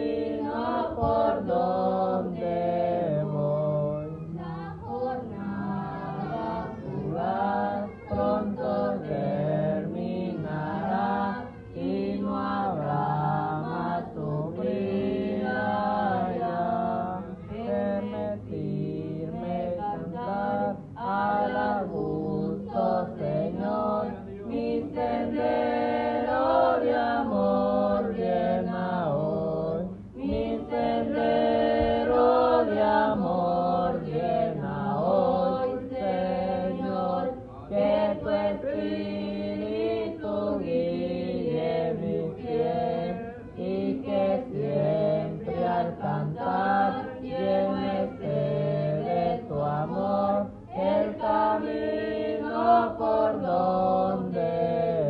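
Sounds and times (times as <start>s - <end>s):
boy and girl singing: 0.0s - 55.0s.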